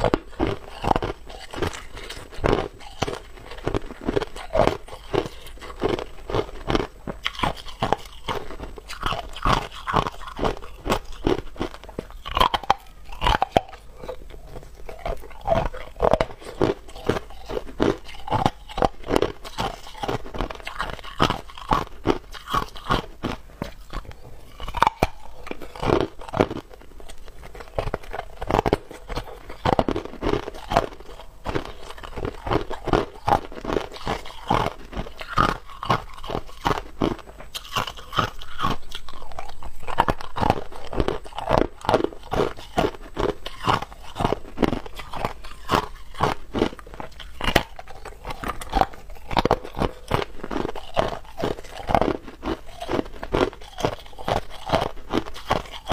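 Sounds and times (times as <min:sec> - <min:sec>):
ice being chewed: 0:00.0 - 0:55.9.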